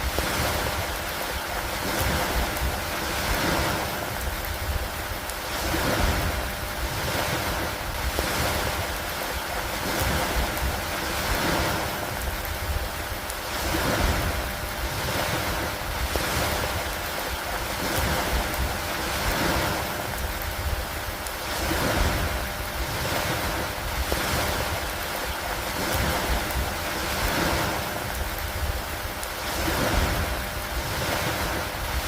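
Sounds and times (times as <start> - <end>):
rain over lake water: 0.0 - 32.0.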